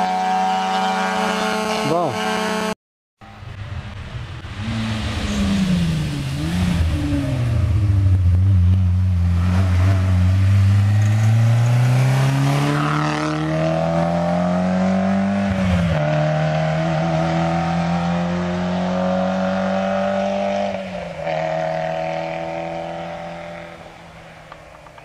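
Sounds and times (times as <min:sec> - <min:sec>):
rally car engine accelerating: 0:00.0 - 0:23.8.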